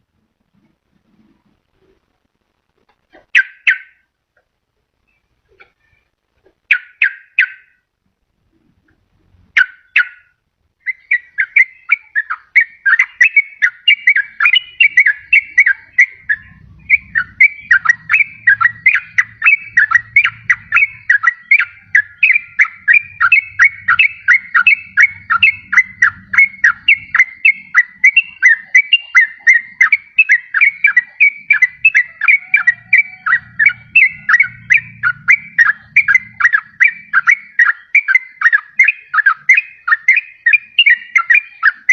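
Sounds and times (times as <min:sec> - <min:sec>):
bird singing fast whistled chatter: 0:03.3 - 0:04.1, 0:06.7 - 0:07.9, 0:09.5 - 0:41.9.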